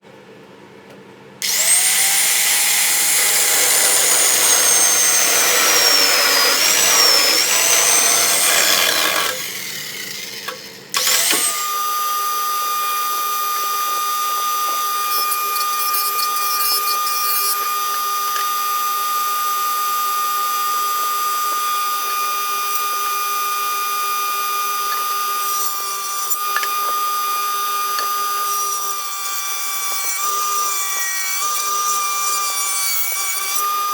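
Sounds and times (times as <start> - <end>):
motor steady whine: 0.8 - 28.7
power tool cutting wood: 1.4 - 33.9.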